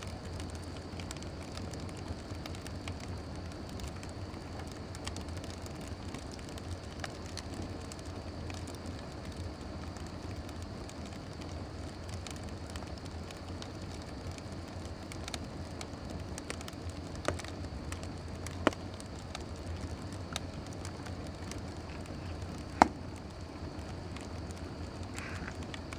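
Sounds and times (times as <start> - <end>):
fire hissing and crackling: 0.0 - 25.9
fire popping: 0.0 - 25.9.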